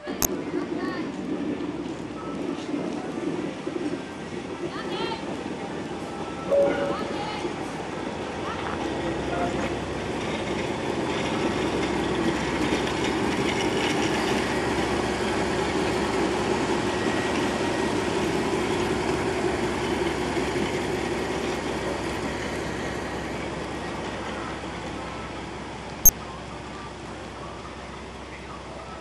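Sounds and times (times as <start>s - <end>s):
train running on track: 0.0s - 29.0s.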